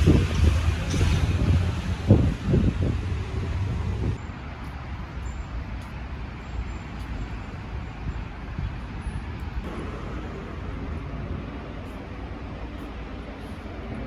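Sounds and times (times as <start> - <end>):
city hiss: 0.0 - 14.0
road traffic rumble: 0.0 - 14.0.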